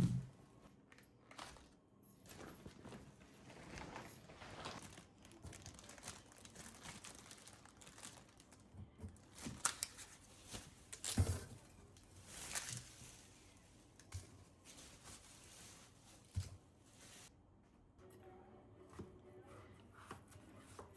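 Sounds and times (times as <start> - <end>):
crinkling and rustling: 0.0 - 17.3.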